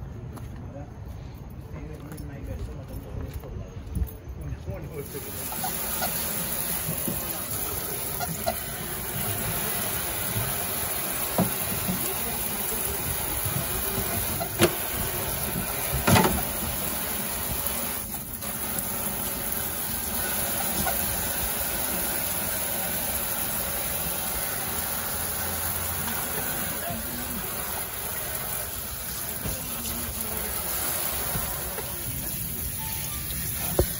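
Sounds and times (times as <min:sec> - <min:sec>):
tap water spraying into sink: 0:05.1 - 0:33.9.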